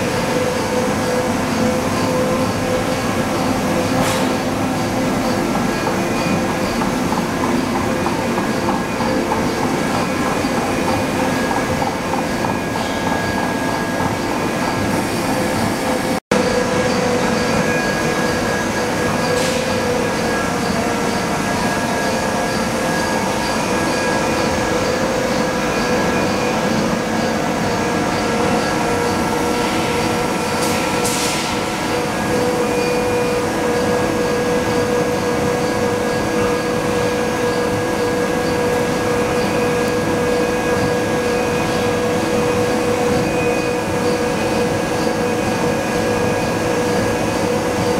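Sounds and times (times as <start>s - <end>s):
machine whining tones: 0.0s - 47.9s.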